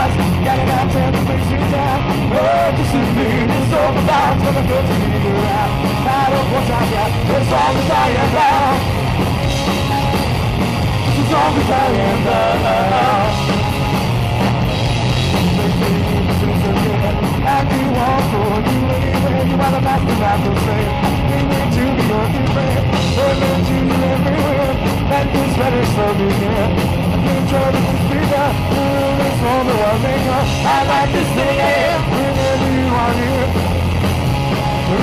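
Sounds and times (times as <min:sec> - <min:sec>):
punk band playing: 0:00.0 - 0:35.0.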